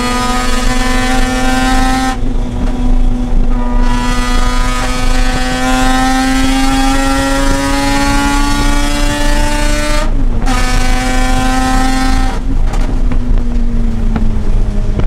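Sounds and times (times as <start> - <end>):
rotary engine revving: 0.0 - 15.0.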